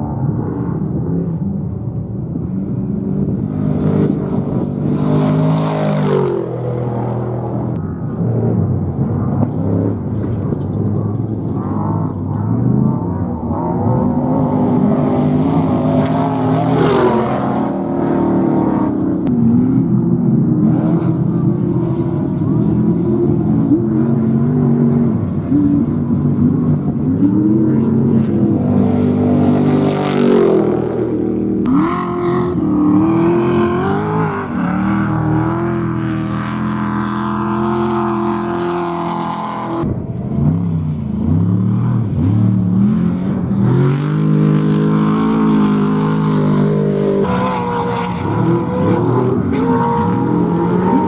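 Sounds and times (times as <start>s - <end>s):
race vehicle engines revving: 0.0s - 51.0s.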